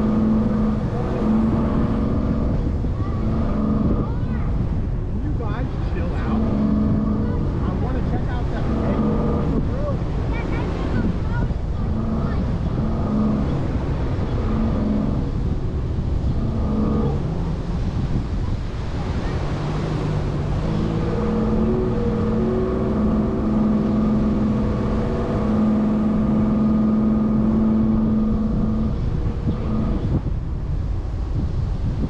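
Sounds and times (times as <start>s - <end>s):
wind on microphone: 0.0s - 32.0s.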